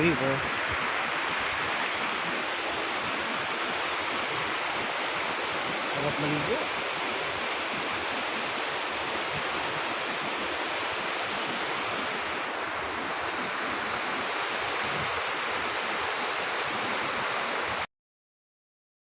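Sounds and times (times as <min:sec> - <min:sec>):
river rushing: 0:00.0 - 0:17.9.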